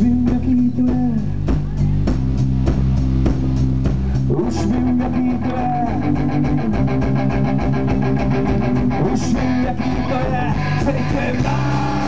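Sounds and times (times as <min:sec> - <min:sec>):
bass guitar: 0:00.0 - 0:12.0
drum-kit beat: 0:00.0 - 0:12.0
electric guitars playing chords: 0:01.9 - 0:12.0.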